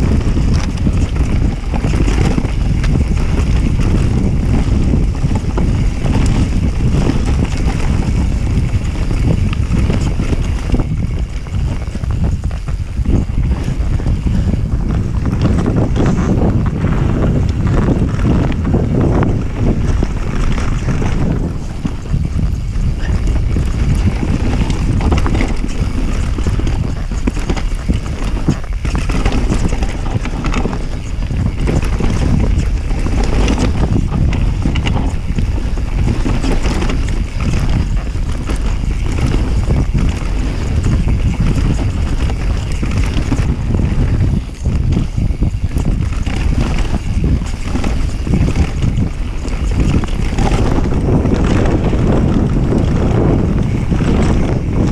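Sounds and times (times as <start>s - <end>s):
bike knocks and rattles: 0.0s - 54.9s
tyres rolling over dirt: 0.0s - 54.9s
wind buffeting microphone: 0.0s - 54.9s.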